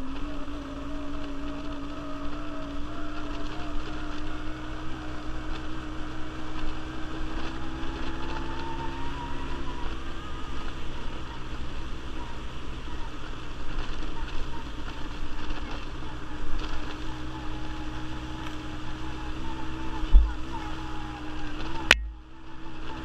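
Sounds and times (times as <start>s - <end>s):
faint whine: 0.0s - 23.0s
quad bike engine running: 0.0s - 23.0s.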